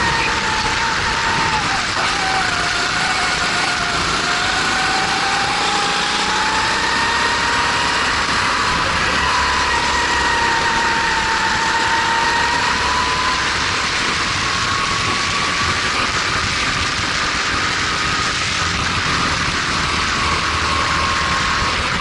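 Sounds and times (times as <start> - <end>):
kart engine running hard: 0.0 - 22.0.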